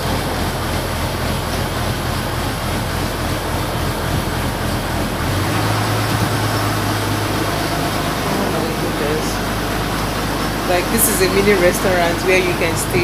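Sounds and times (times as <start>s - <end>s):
boat engine droning: 0.0s - 13.0s
deeper hum: 0.0s - 13.0s.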